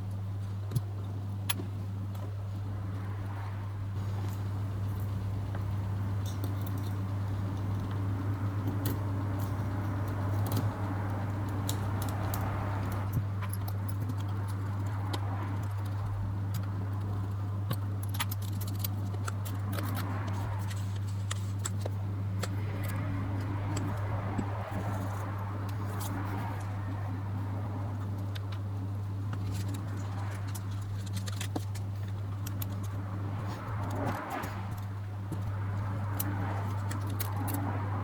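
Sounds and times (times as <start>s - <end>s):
steady low hum: 0.0s - 38.0s
small metal parts clinking: 4.0s - 26.8s, 29.3s - 35.4s, 36.0s - 37.9s.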